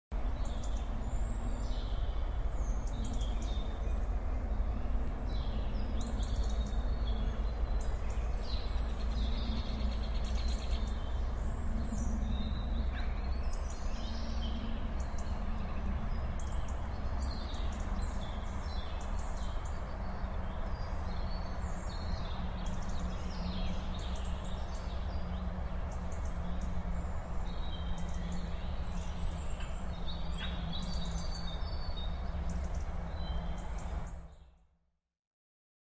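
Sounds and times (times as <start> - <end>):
small birds chirping: 0.2 - 34.5.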